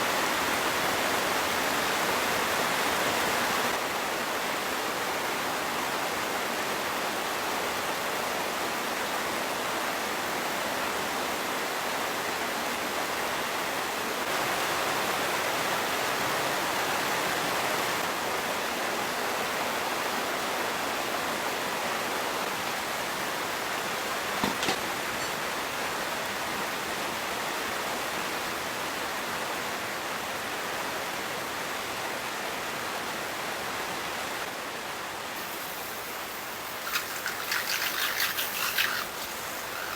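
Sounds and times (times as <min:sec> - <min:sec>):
rain: 0:00.0 - 0:24.4, 0:25.4 - 0:39.9
wind: 0:00.0 - 0:39.9.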